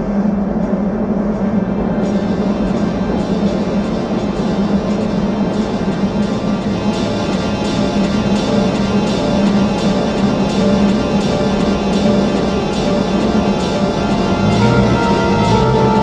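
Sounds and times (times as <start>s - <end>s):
dense wall of noise: 0.0s - 16.0s
low drone: 0.0s - 16.0s.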